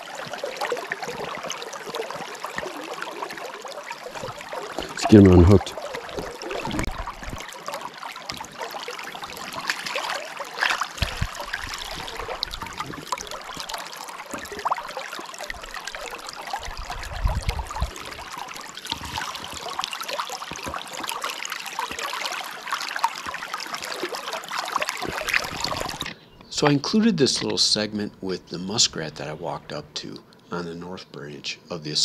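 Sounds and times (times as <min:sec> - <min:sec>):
river current trickling: 0:00.0 - 0:30.8.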